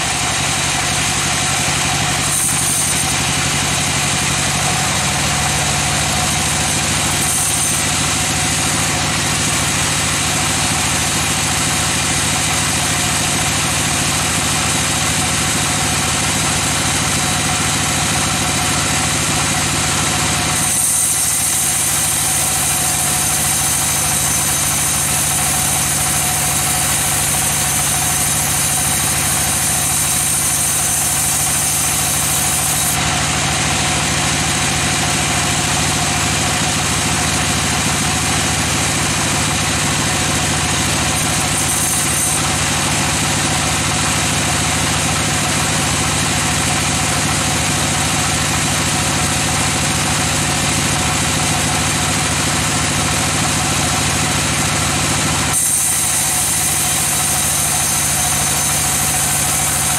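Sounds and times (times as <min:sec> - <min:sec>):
band saw cutting a log: 0:00.0 - 0:59.9.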